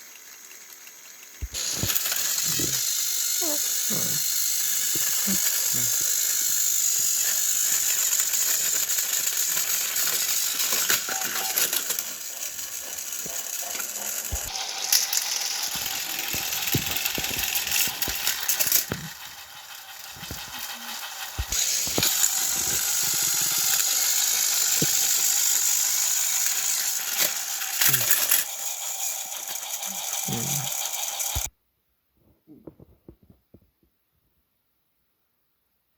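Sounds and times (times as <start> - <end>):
toy train motors whirring: 0.0 - 31.5
wheels rattling on plastic track: 0.0 - 31.5.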